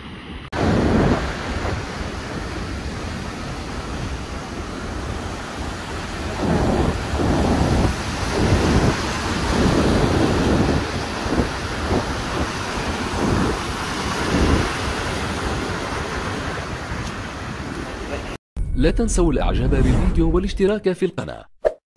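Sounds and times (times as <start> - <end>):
ocean surf washing over rock: 0.0 - 18.4
wind buffeting microphone: 0.5 - 18.4.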